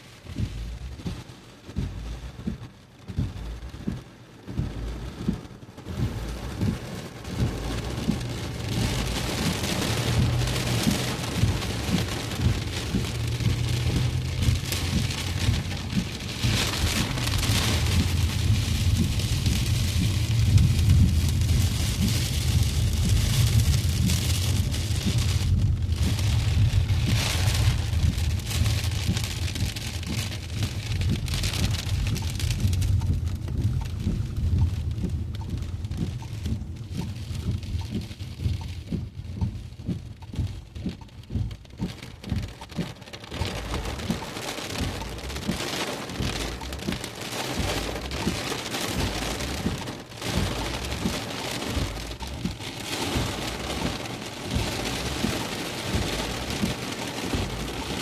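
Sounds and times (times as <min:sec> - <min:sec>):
low rumble: 0:00.0 - 0:58.0
rain pattering on a car: 0:00.0 - 0:58.0.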